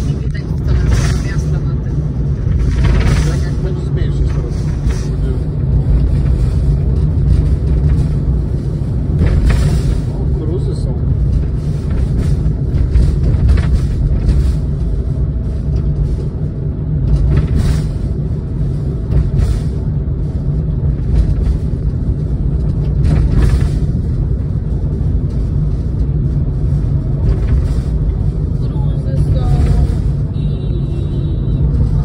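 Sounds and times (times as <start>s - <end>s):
vehicle driving rumble: 0.0s - 32.0s.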